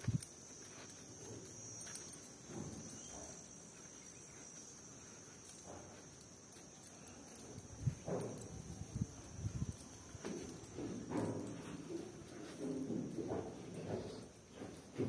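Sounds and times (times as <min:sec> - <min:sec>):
soft footsteps on concrete: 0:00.0 - 0:15.0.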